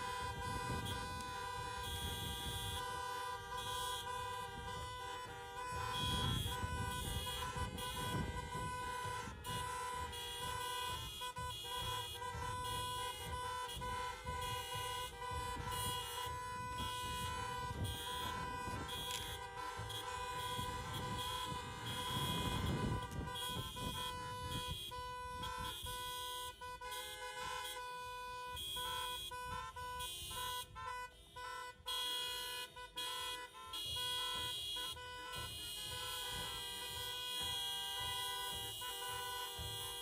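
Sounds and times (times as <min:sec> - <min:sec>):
car horns honking: 0:00.0 - 0:40.0.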